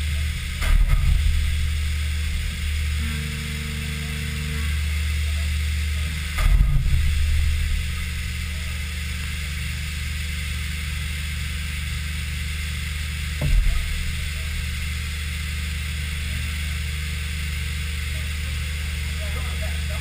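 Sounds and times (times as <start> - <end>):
milling machine hum: 0.0 - 20.0.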